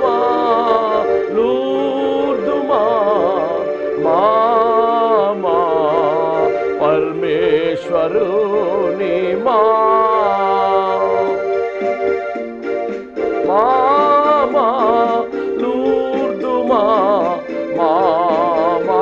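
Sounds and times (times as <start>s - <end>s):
man singing: 0.0s - 11.5s, 13.2s - 19.0s
electronic keyboard chords: 0.0s - 19.0s.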